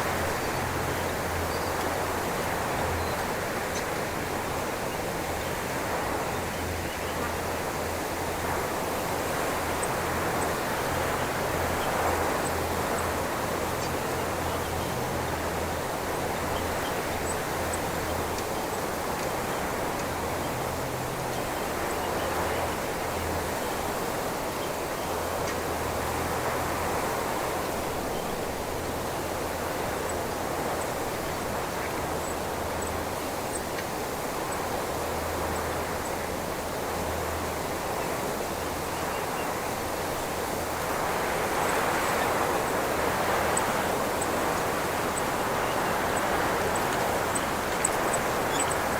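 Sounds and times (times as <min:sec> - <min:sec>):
wind rushing through bush: 0:00.0 - 0:48.9.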